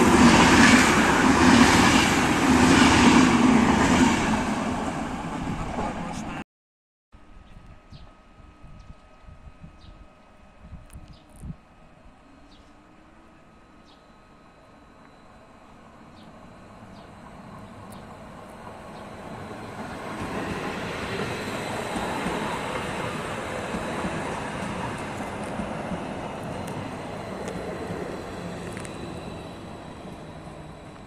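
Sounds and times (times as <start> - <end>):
electric train passing: 0.0 - 6.4, 11.6 - 31.0.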